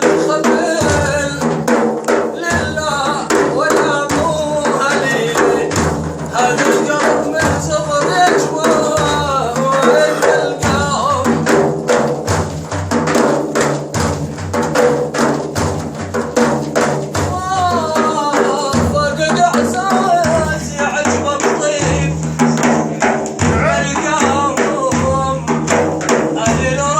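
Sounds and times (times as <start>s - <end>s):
man singing: 0.0s - 12.4s, 15.5s - 26.9s
frame drum and tambourine beat: 0.0s - 26.9s.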